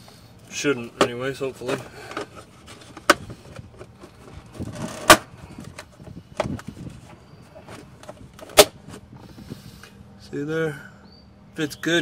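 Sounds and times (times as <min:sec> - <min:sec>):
rustling of box and wires: 0:00.0 - 0:09.7.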